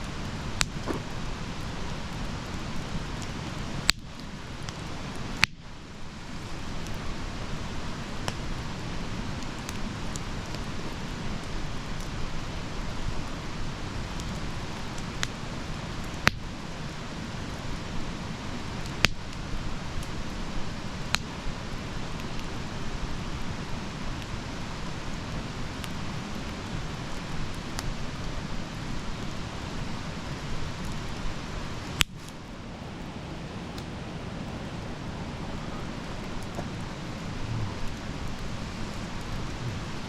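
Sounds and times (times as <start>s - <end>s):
fire crackling pops: 0.0s - 40.0s
wood fire rumbling and hissing: 0.0s - 40.0s.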